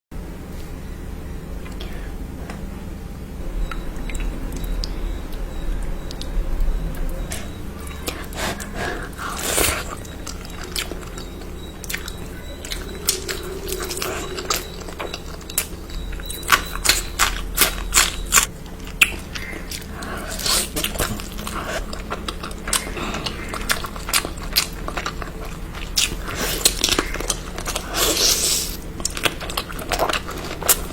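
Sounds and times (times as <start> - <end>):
person chewing and crunching: 3.7 - 30.9.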